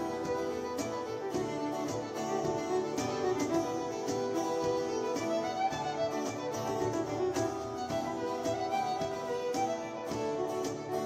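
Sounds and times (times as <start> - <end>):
acoustic guitar: 0.0 - 11.0
cajon beat: 0.0 - 11.0
fiddle tune on violin: 0.0 - 11.0.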